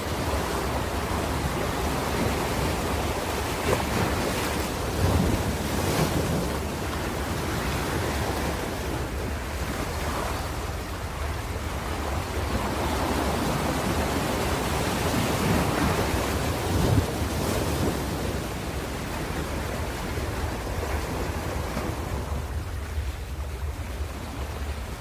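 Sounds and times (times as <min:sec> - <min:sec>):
waves breaking on shore: 0:00.0 - 0:25.0.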